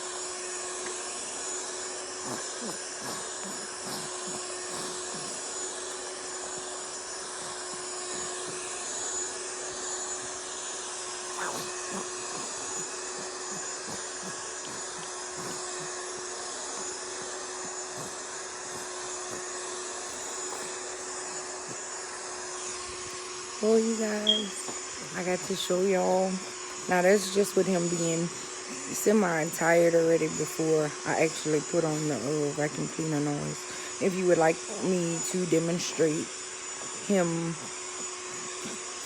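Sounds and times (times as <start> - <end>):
vacuum cleaner humming: 0.0 - 39.0.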